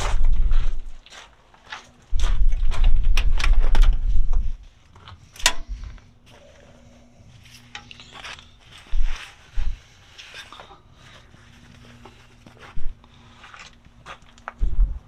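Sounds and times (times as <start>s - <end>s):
low rumbling: 0.0s - 1.0s, 2.0s - 15.0s.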